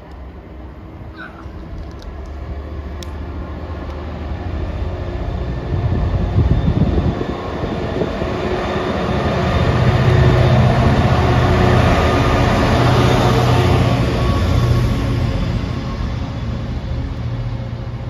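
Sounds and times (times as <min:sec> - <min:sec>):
diesel locomotive engine running: 0:00.0 - 0:18.0
train rumbling on rails: 0:00.0 - 0:18.0.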